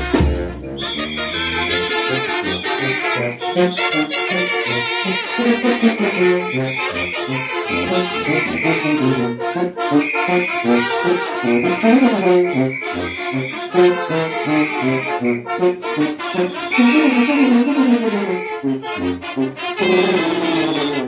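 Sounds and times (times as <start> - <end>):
brass band playing dance tune: 0.0 - 21.0.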